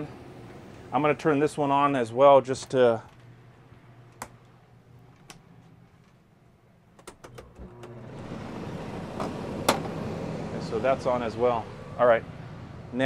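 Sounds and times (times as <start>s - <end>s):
air conditioner fan rushing: 0.0s - 13.0s
steady low hum: 0.0s - 13.0s.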